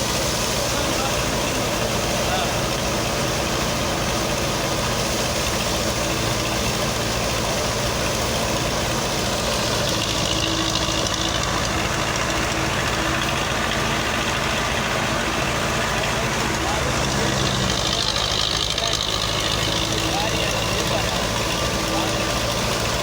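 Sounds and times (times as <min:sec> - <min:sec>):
farm machinery engine running: 0:00.0 - 0:23.0.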